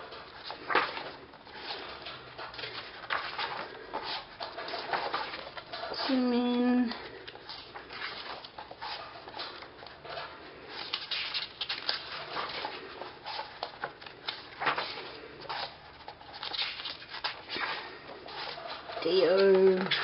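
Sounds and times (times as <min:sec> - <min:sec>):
glossy pages rustling: 0:00.0 - 0:20.0.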